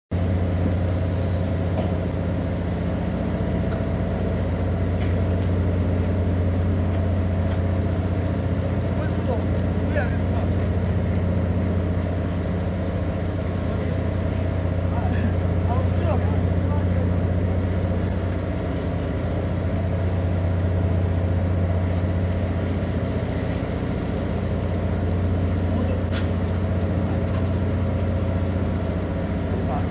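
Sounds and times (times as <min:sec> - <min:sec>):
diesel machinery idling: 0:00.1 - 0:29.9.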